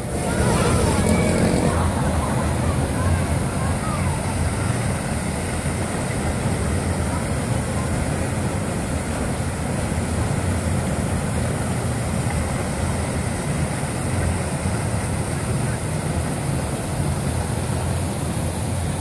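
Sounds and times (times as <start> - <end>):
fountain splashing into pond: 0.0 - 19.0.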